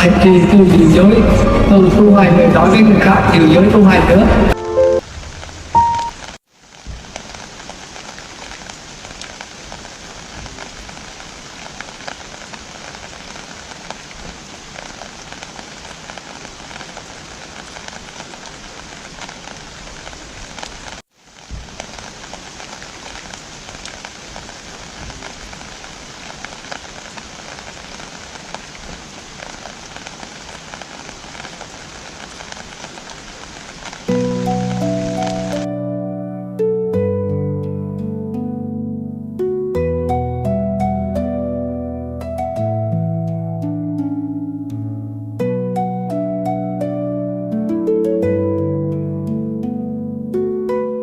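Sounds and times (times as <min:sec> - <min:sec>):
steady rain falling: 0:00.0 - 0:38.3, 0:39.3 - 0:51.0.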